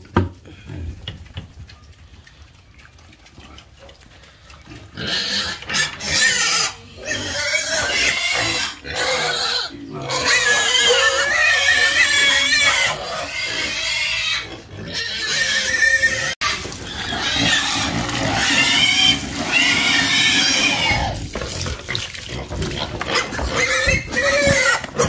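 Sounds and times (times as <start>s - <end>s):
pigs squealing: 4.4s - 25.0s.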